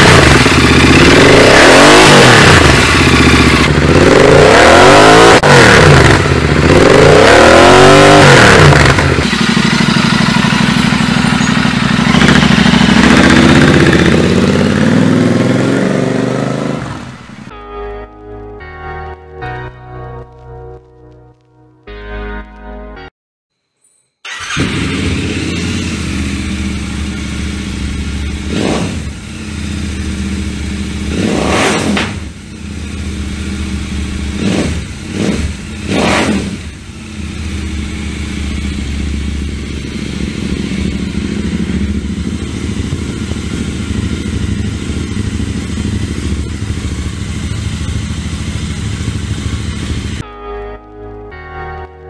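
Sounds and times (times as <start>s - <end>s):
motorcycle engine idling and blipping: 0.0s - 17.5s, 24.2s - 50.3s.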